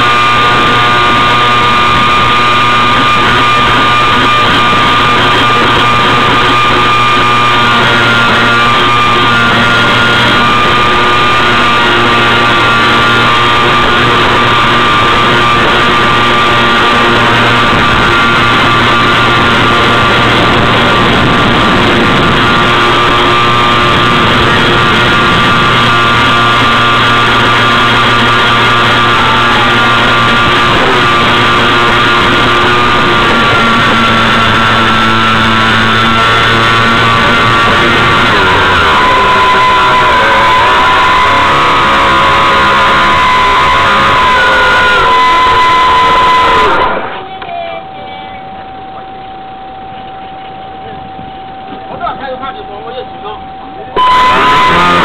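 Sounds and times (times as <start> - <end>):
model boat motor whining: 0.0 - 55.0.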